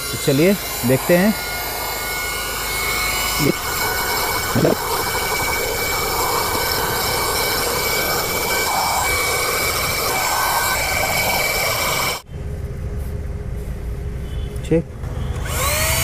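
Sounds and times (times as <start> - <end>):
handheld vacuum cleaner whining: 0.0 - 12.2, 15.4 - 16.0.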